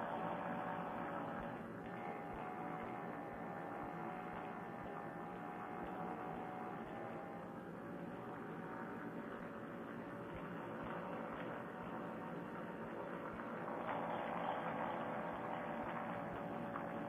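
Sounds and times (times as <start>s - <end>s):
muffled engine drone: 0.0s - 17.0s.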